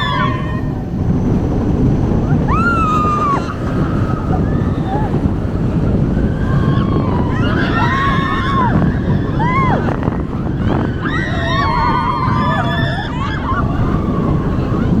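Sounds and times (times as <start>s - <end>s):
riders screaming: 0.0s - 0.8s, 2.4s - 15.0s
roller coaster rumbling on track: 0.0s - 15.0s
wind rushing over microphone: 0.0s - 15.0s.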